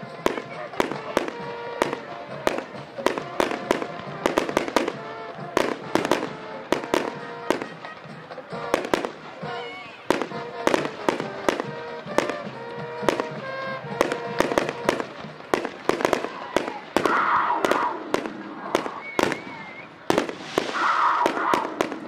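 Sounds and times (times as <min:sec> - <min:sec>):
fireworks bursting bangs: 0:00.0 - 0:22.0.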